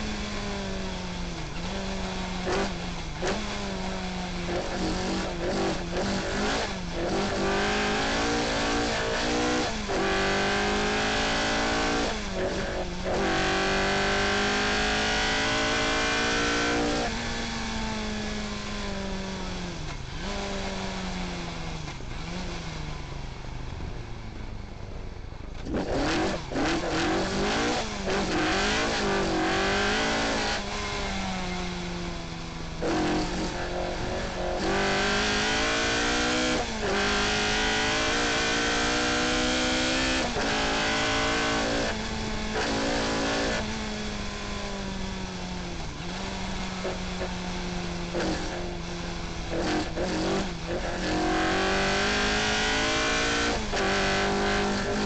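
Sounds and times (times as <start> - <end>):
rally car engine revving: 0.0 - 24.2, 25.5 - 55.0.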